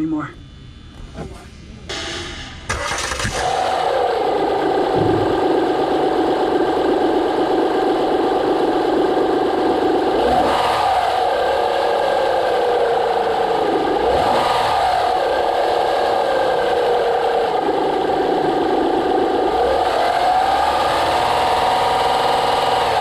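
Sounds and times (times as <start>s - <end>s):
car engine whirring: 0.0s - 23.0s.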